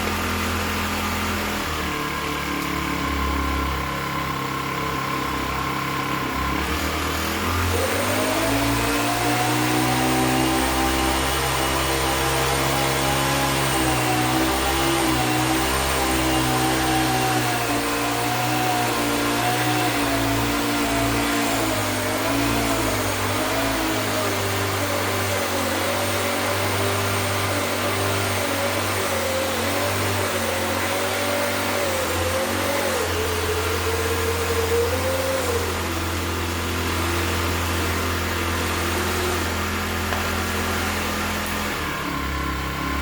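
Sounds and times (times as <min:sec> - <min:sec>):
small electric motors whining: 0:00.0 - 0:43.0.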